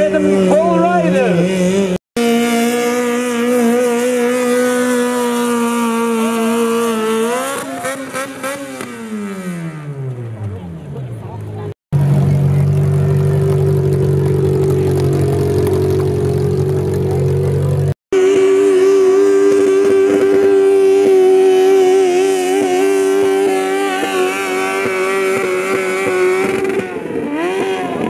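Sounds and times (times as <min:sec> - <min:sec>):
tractor engine at high revs: 0:00.0 - 0:28.0.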